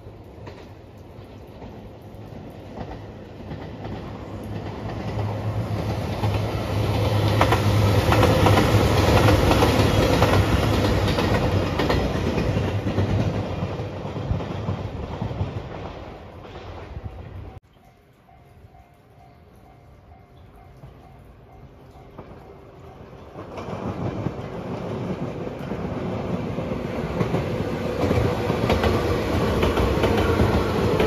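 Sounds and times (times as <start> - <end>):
diesel train engine drone: 0.0 - 17.5, 18.7 - 31.0
train wheels clicking over rail joints: 0.2 - 17.1, 20.5 - 31.0.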